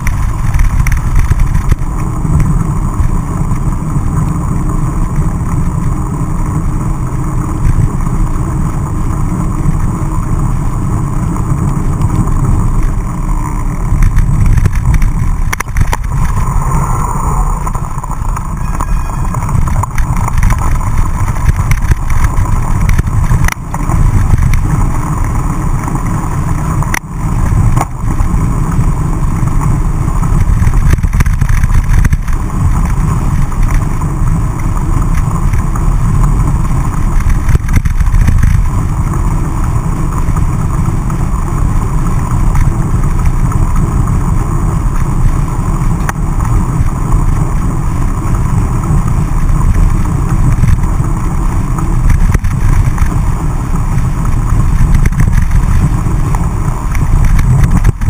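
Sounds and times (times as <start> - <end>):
bicycle tyre rumble on dirt: 0.0 - 58.0
wind buffeting microphone: 0.0 - 58.0.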